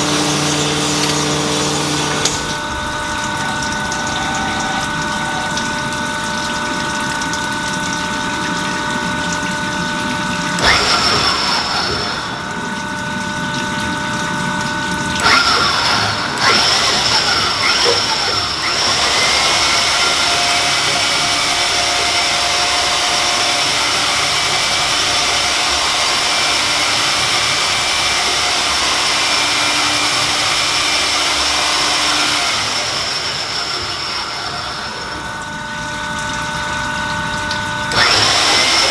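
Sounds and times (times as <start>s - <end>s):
coolant pumping and splashing: 0.0s - 38.9s
honing machine running: 0.0s - 38.9s.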